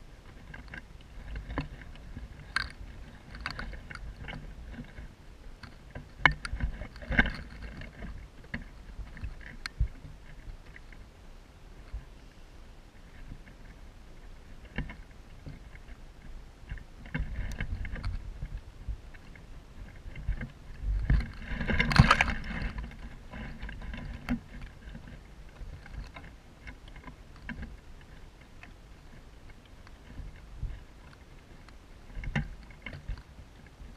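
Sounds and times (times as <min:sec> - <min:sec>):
rustling of dry twigs and grass: 0:00.0 - 0:33.9
wind rumbling on microphone: 0:00.0 - 0:33.9.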